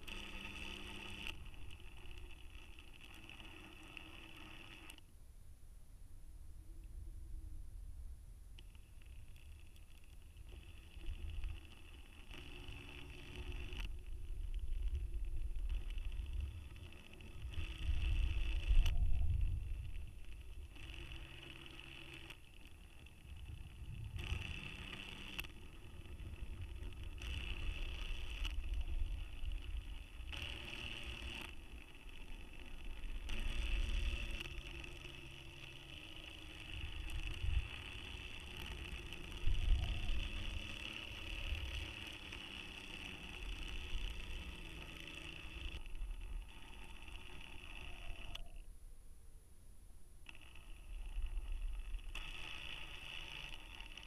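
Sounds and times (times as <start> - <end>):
small motor whining: 0.0 - 5.1, 8.6 - 48.7, 50.2 - 54.0
low uneven rumble: 0.0 - 52.2.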